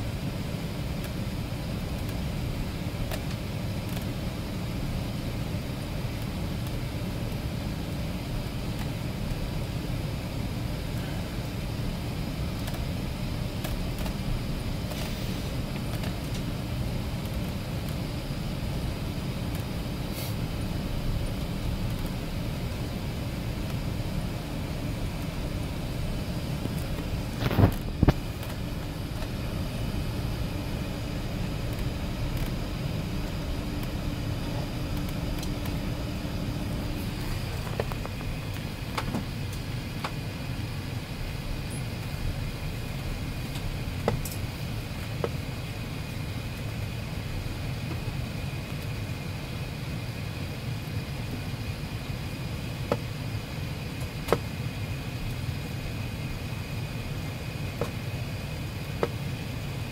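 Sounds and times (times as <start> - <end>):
airplane cabin rumble: 0.0 - 59.9
faint high whine: 0.0 - 59.9
faint hum: 0.0 - 59.9.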